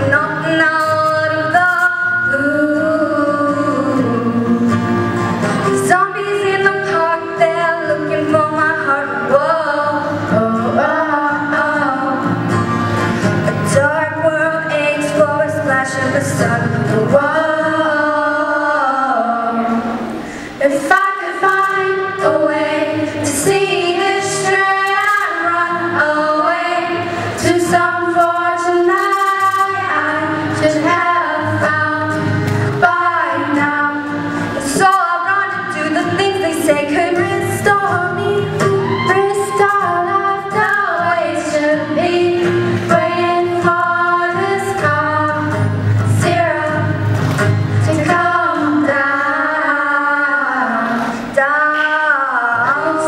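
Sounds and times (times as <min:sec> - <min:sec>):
acoustic guitar: 0:00.0 - 0:53.0
girls singing: 0:00.0 - 0:53.0.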